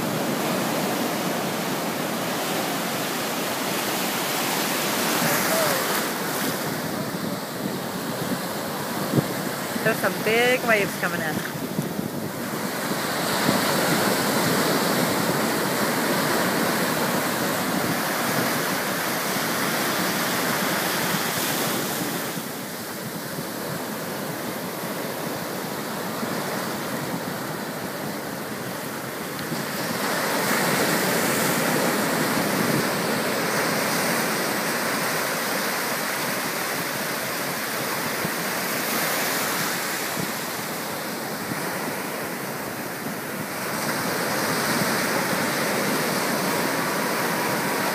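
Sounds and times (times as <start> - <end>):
ocean surf breaking: 0.0 - 47.9.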